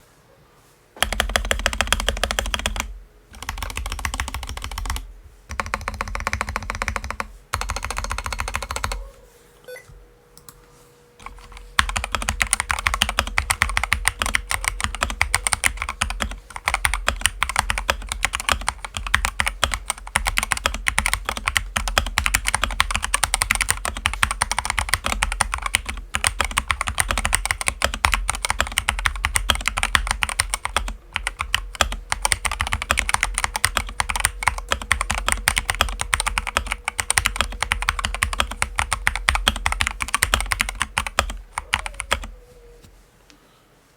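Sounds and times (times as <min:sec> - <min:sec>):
mechanical keyboard typing: 0:01.0 - 0:09.0, 0:11.2 - 0:42.3.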